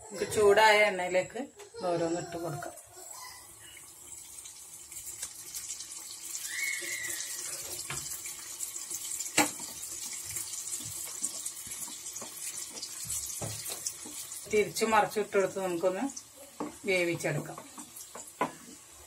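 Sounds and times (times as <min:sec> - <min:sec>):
snack deep-frying in oil: 0:02.7 - 0:19.0.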